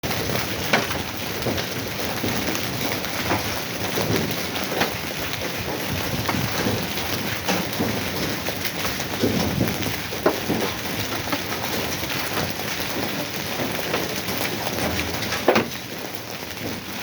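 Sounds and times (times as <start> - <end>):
hail and rain patter: 0.0 - 17.0.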